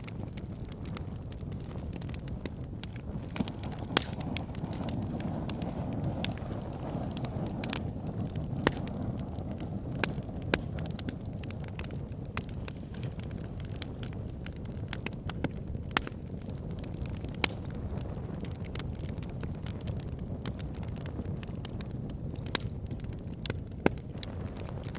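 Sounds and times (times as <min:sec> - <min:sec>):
fire crackling and popping: 0:00.0 - 0:24.9
fire rumbling: 0:00.0 - 0:24.9.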